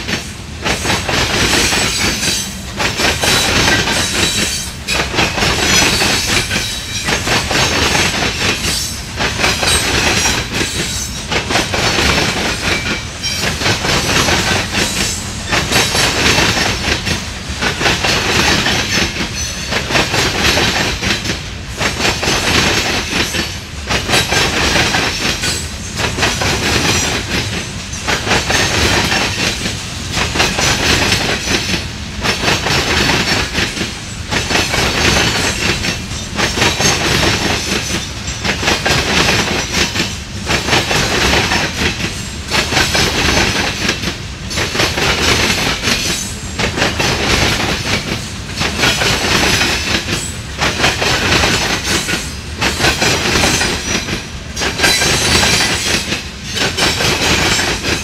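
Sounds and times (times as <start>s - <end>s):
train wheels clattering over rails: 0.0s - 58.0s.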